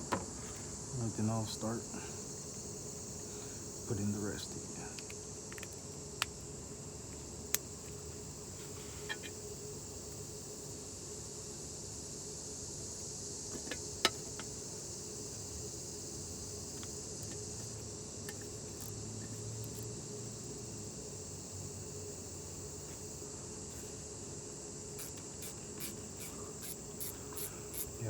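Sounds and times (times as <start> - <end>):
low background hum: 0.0 - 28.0
high-pitched insect drone: 0.4 - 6.5, 7.2 - 28.0.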